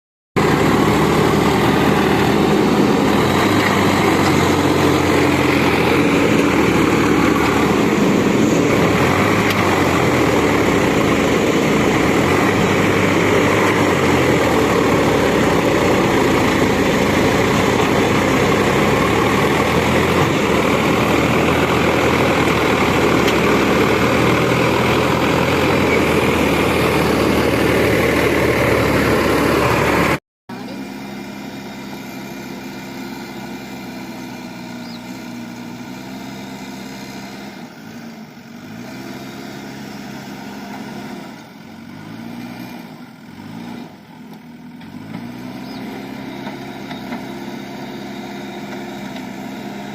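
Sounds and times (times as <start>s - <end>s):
heavy machine engine running: 0.4s - 49.9s.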